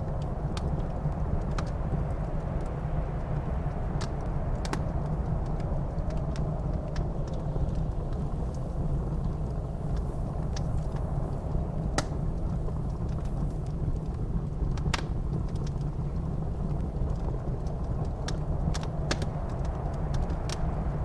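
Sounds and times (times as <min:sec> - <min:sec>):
blizzard wind rumbling: 0:00.0 - 0:21.0
wood fire crackling: 0:00.0 - 0:21.0.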